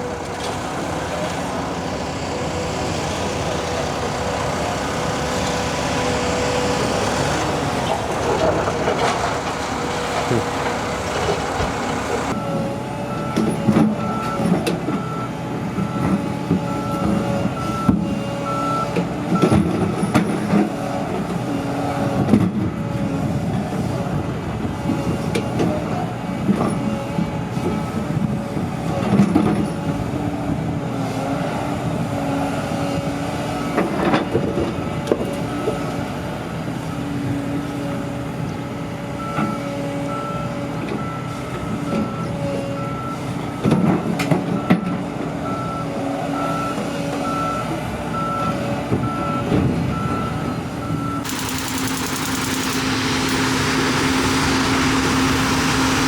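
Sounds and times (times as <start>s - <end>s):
construction machine engine running: 0.0s - 56.0s.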